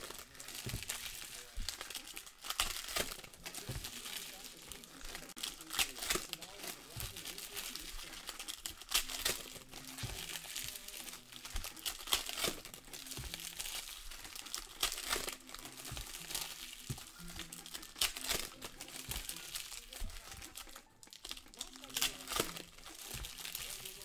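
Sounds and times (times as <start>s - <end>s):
plastic wrapping crinkling and tearing: 0.0s - 24.0s.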